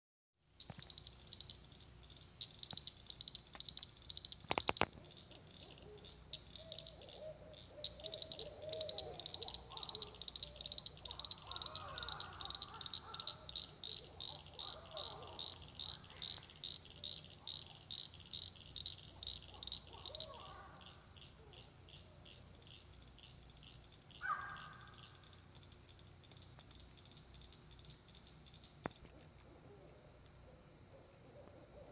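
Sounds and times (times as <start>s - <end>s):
owls hooting and cackling: 0.6s - 25.5s, 29.5s - 31.9s
pulsing insect chorus: 0.6s - 31.9s.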